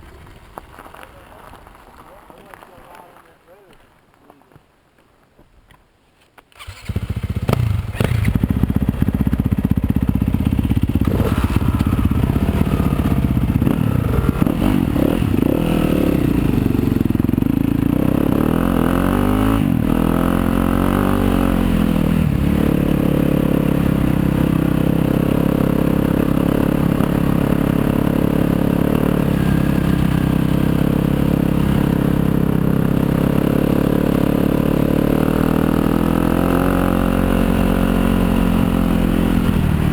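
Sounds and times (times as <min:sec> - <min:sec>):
dirt bike engine starting and revving: 0:06.5 - 0:39.9.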